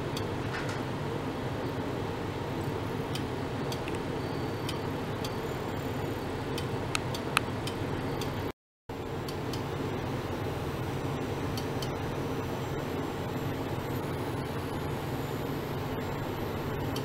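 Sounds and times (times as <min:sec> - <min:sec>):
equipment hum and hiss: 0:00.0 - 0:17.0.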